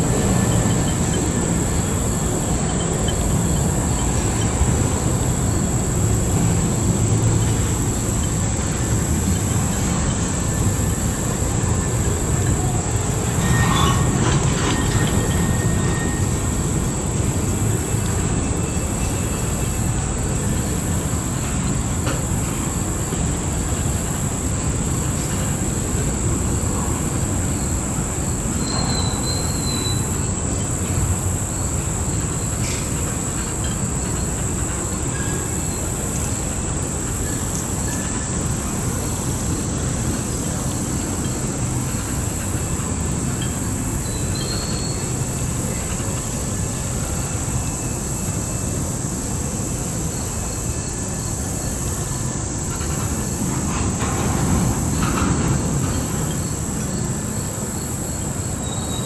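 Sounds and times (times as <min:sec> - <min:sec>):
high wheel squeals: 0:00.0 - 0:59.0
train wheels rumbling on rail: 0:00.0 - 0:59.0.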